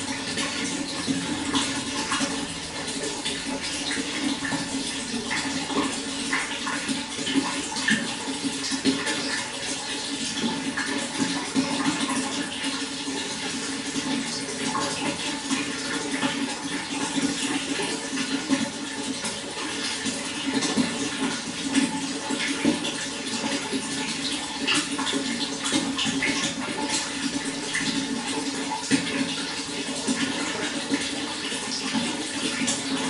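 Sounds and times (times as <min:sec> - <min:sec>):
running water flowing: 0:00.0 - 0:33.0.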